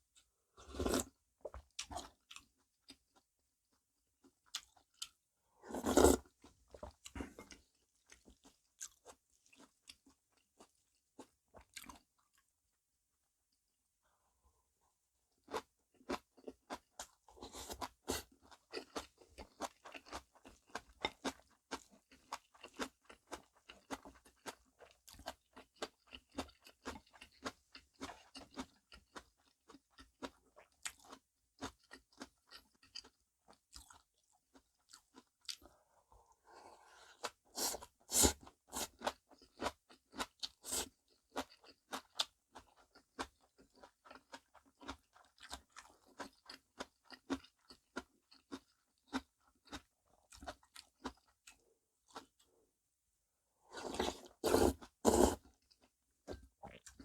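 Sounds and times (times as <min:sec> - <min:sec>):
chewing and crunching food: 0:00.1 - 0:12.6, 0:15.3 - 0:52.7, 0:53.6 - 0:57.0.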